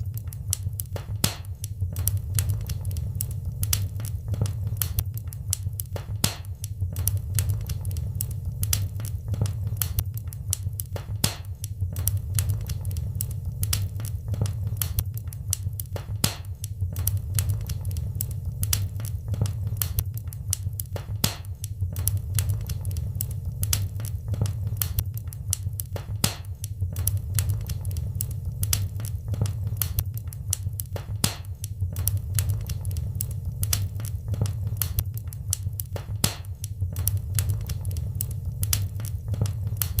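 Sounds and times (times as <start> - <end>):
low rumble of burning logs: 0.0 - 40.0
wood fire crackling and popping: 0.0 - 40.0.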